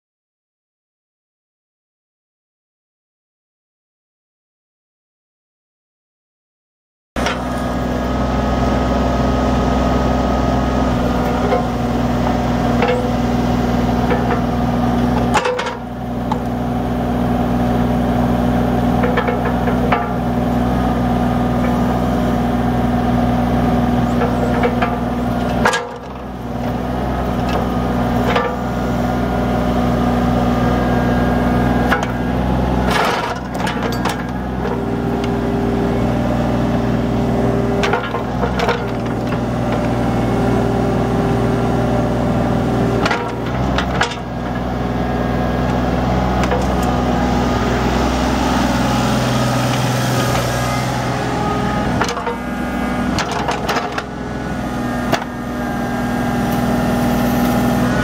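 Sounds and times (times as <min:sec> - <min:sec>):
diesel engine running: 0:07.2 - 0:58.0
hydraulic arm working: 0:07.2 - 0:58.0.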